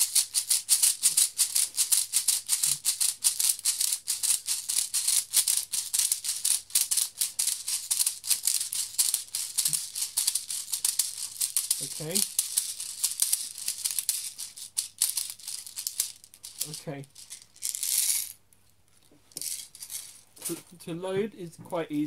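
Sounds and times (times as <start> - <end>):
plastic pellets rattling: 0.0 - 18.4, 19.3 - 20.5.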